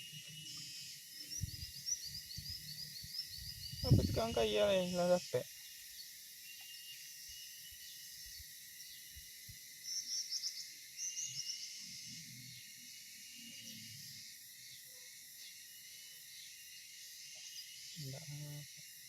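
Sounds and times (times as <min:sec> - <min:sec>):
crickets and insects chirping: 0:00.0 - 0:19.0.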